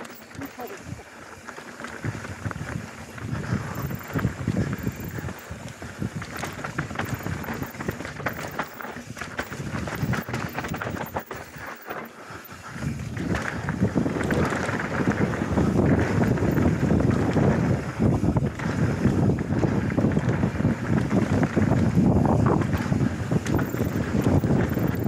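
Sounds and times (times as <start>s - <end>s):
bike clattering over bumps: 0.0s - 25.0s
bike tyres on dirt: 0.0s - 25.0s
wind on microphone: 2.0s - 11.7s, 12.4s - 25.0s.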